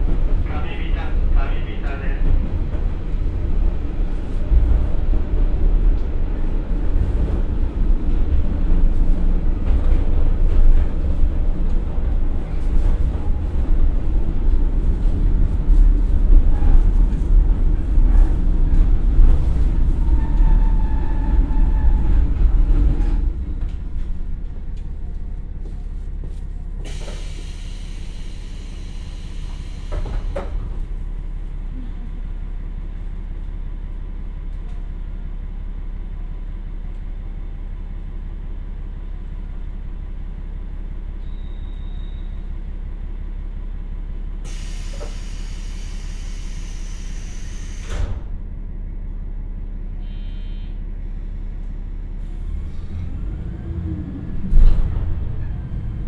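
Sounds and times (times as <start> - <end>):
diesel railcar engine rumble: 0.0 - 56.0.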